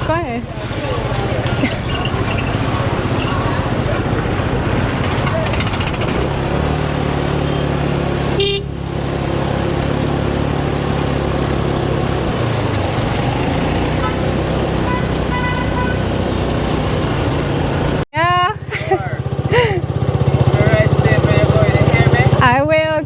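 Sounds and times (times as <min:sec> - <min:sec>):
motor scooter engine running: 0:00.0 - 0:23.0
wind and road noise: 0:00.0 - 0:23.0.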